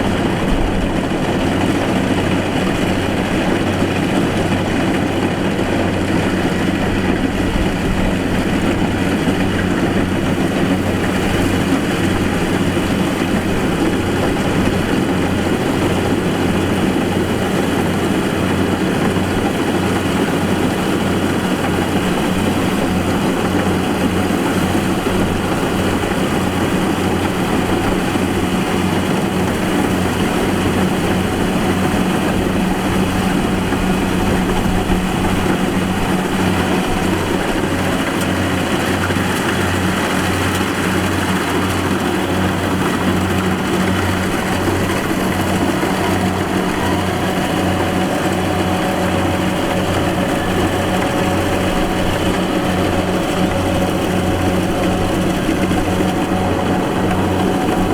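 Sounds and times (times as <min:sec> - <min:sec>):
diesel engine drone: 0:00.0 - 0:57.9.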